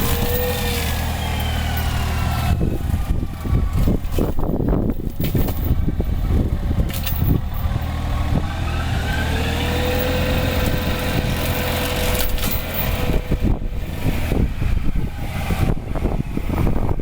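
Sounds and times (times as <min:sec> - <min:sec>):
excavator engine running: 0:00.0 - 0:17.0
mulcher rotor whine: 0:00.0 - 0:17.0.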